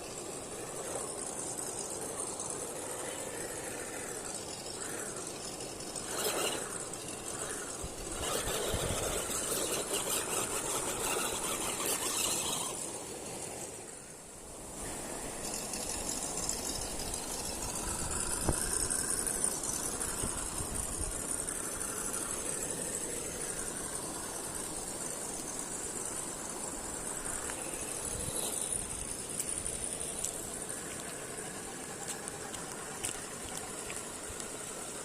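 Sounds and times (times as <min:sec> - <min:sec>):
electric motor and gears whining: 0:00.0 - 0:13.9, 0:14.7 - 0:35.0.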